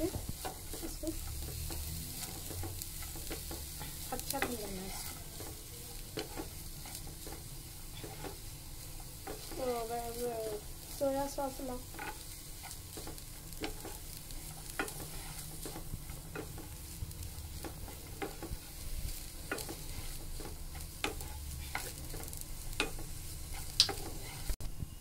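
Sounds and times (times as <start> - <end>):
wooden spatula scraping a pan: 0.0 - 24.6
food frying sizzle: 0.0 - 25.0.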